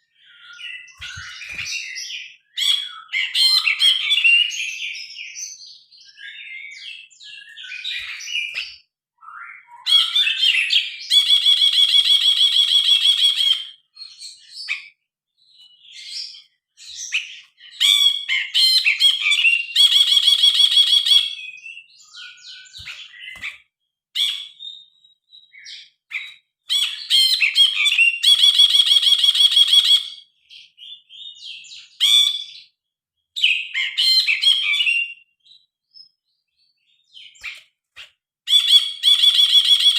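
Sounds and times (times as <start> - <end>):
bird singing chirping phrases: 0.0 - 32.8, 33.4 - 37.7.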